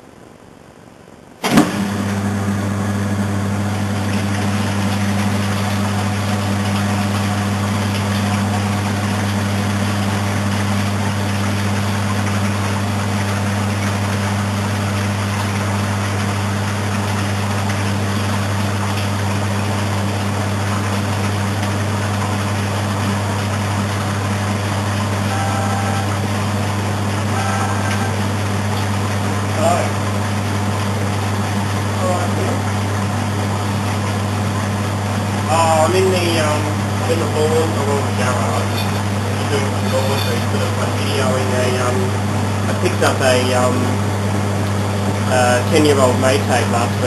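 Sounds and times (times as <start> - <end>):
washing machine humming and churning: 0.0 - 47.0
washing machine motor clunk: 1.4 - 47.0.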